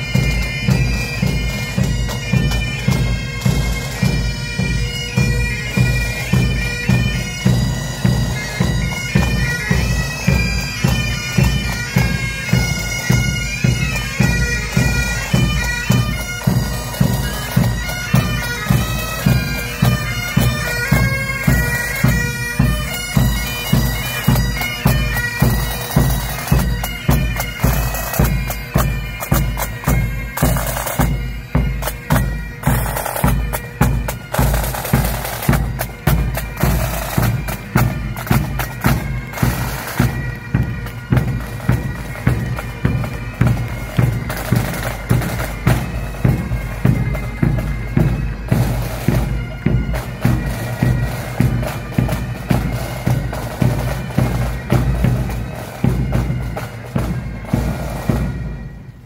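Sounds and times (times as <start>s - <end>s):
bagpipes playing a march: 0.0s - 59.0s
snare drums: 0.0s - 59.0s.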